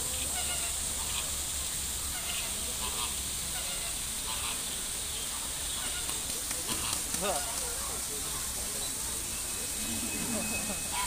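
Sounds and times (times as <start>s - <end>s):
flamingos honking: 0.0s - 11.0s
steady hiss: 0.0s - 11.0s.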